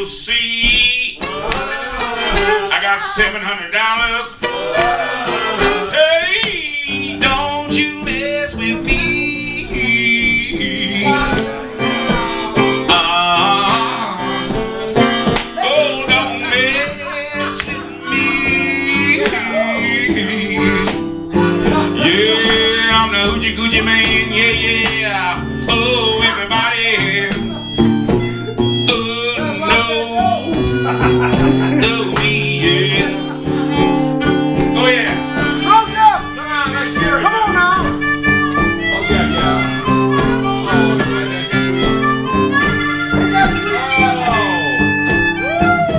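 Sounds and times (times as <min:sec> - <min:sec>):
person singing: 0:00.0 - 0:45.9
strummed acoustic guitar: 0:00.0 - 0:45.9
harmonica with bent notes: 0:00.1 - 0:45.9.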